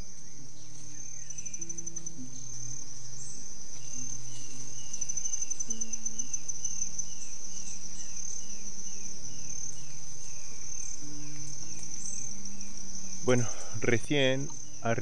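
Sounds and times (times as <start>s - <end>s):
insects trilling: 0.0s - 15.0s
soft low background music: 0.0s - 15.0s.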